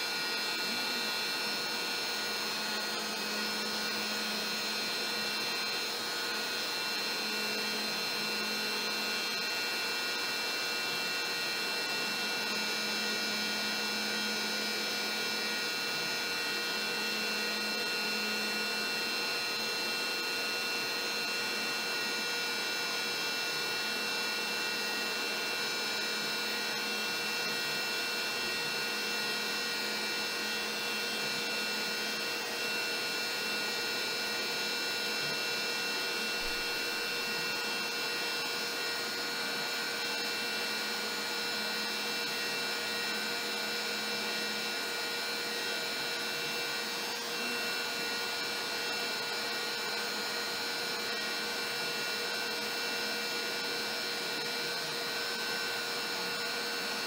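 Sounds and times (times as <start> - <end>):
router cutting wood: 0.0 - 57.0.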